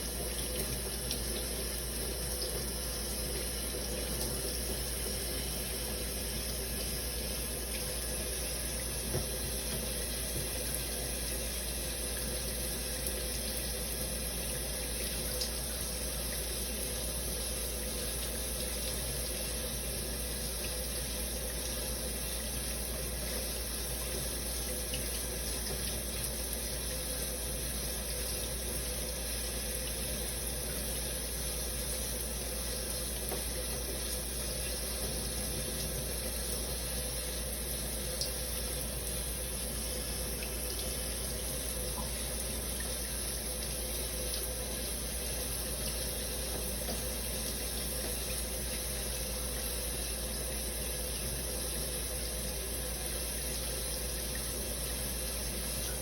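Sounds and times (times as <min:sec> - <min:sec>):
shower running: 0:00.0 - 0:56.0.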